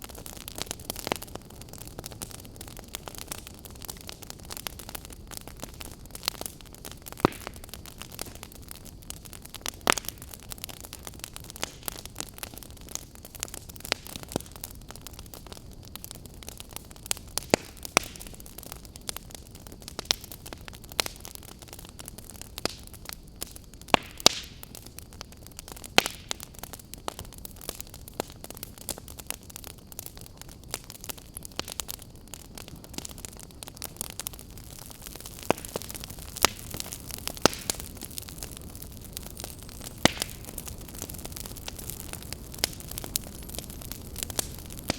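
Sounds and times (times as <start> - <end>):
campfire crackling and popping: 0.0 - 44.9
low fire hiss: 0.0 - 44.9.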